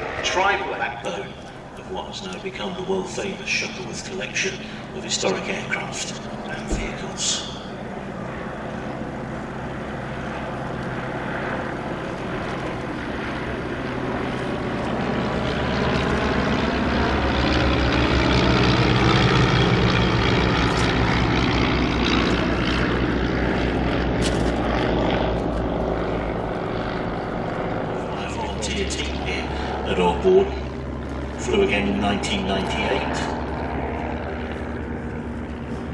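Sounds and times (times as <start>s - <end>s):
propeller aircraft flying past: 0.0s - 35.9s.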